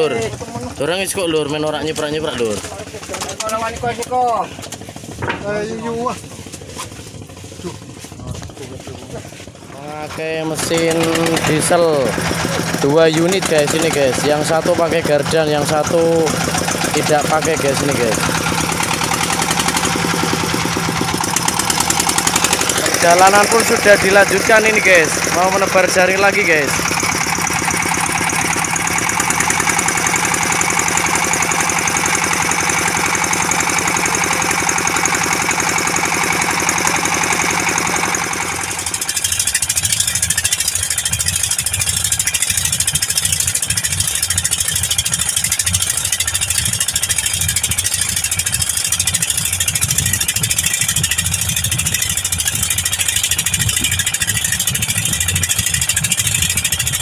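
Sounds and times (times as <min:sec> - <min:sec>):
boat diesel engines running: 0:00.0 - 0:57.0
rough low engine rumble: 0:00.0 - 0:57.0
wind: 0:00.0 - 0:57.0.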